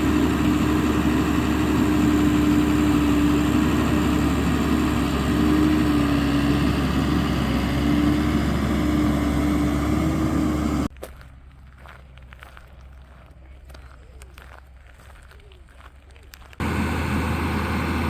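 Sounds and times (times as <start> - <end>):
vehicle engine droning: 0.0 - 15.0, 15.7 - 18.0.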